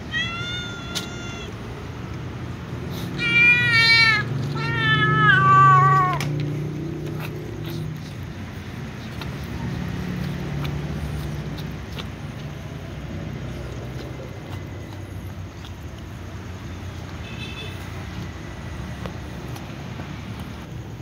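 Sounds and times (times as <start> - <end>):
cats chewing food: 0.0 - 21.0.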